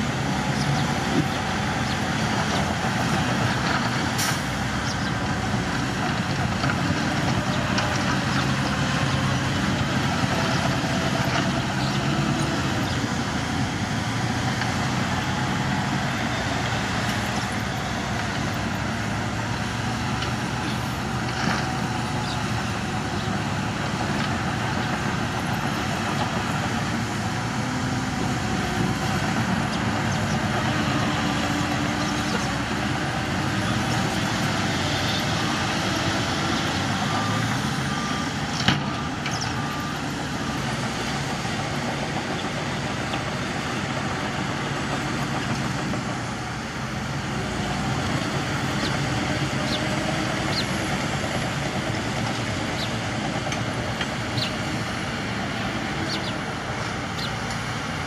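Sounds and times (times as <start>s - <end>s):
diesel truck engines running: 0.0s - 58.0s.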